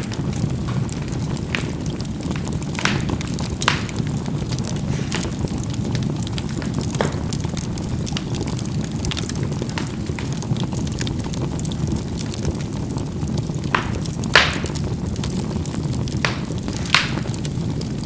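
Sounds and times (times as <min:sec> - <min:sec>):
charcoal bursting pops: 0:00.0 - 0:18.0
charcoal fire rushing and crackling: 0:00.0 - 0:18.0.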